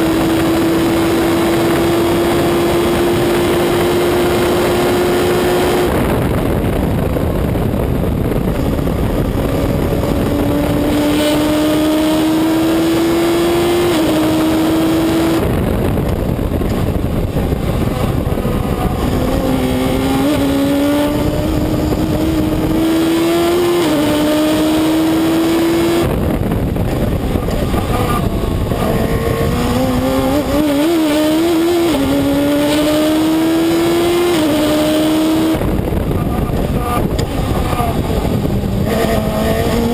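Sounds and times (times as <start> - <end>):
race car engine at full throttle: 0.0 - 39.9
wind rush: 0.0 - 39.9.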